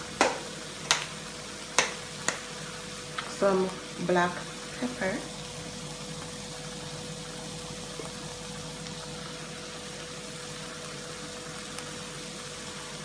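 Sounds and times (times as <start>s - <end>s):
constant hum with faint tone: 0.0s - 13.0s
food frying in a pot: 0.0s - 13.0s.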